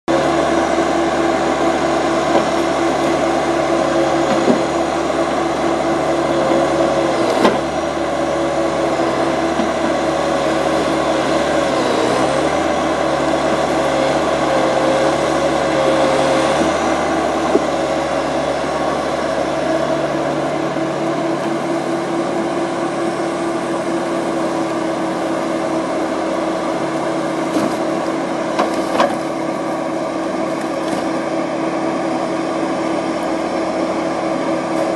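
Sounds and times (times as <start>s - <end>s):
forestry machine engine running: 0.1s - 34.9s.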